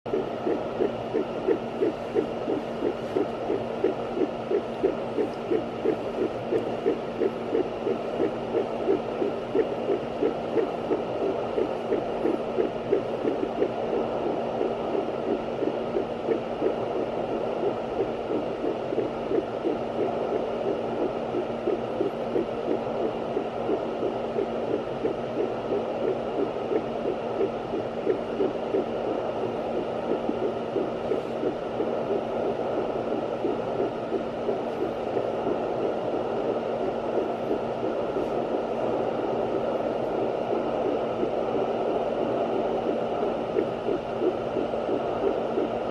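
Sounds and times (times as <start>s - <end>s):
fast heartbeat pulse through speaker: 0.1s - 45.9s
low hum: 0.1s - 45.9s.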